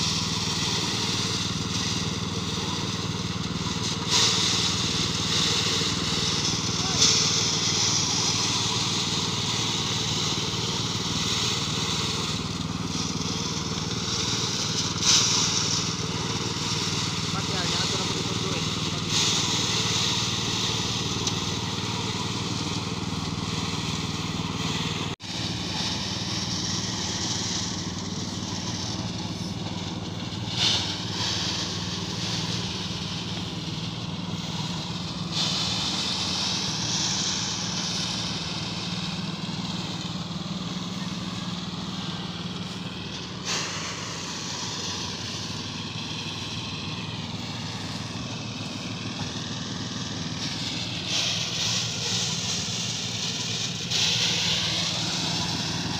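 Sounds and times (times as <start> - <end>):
small engine running: 0.0 - 55.9
thresher rushing noise: 0.0 - 55.9.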